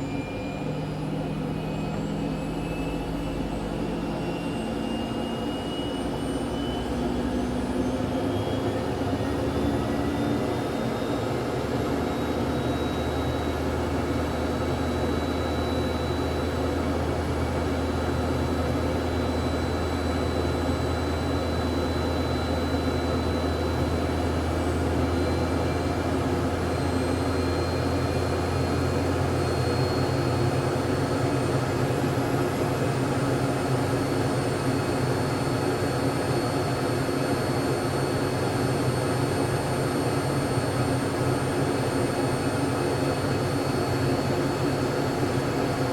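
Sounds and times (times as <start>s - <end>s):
high engine whine: 0.0s - 45.9s
jet engine running: 0.0s - 45.9s.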